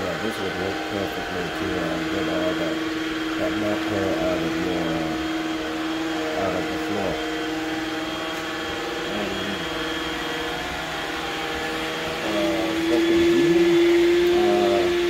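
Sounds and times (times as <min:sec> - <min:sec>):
robot vacuum motor whine: 0:00.0 - 0:15.0.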